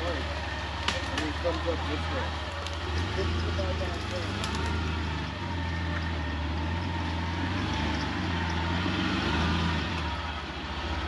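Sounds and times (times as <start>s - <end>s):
car engine droning at low revs: 0.0s - 11.0s.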